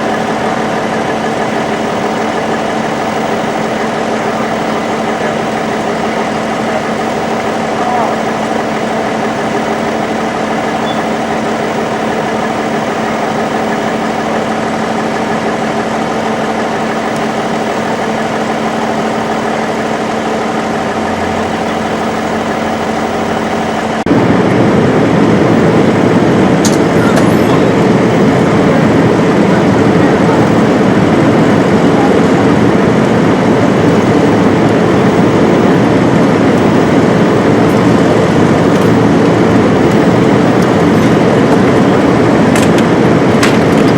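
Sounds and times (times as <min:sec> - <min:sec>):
rough engine rumble: 0:00.0 - 0:43.9
vehicle engine idling: 0:00.0 - 0:43.9.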